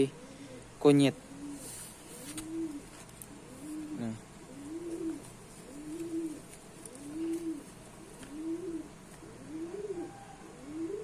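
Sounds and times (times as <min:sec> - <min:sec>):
pigeon cooing: 0:00.0 - 0:11.0.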